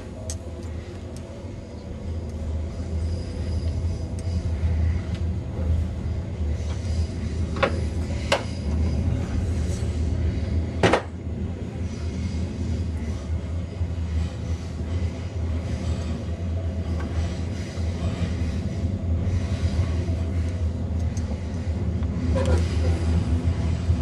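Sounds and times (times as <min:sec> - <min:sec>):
train rumbling from inside: 0:00.0 - 0:24.0.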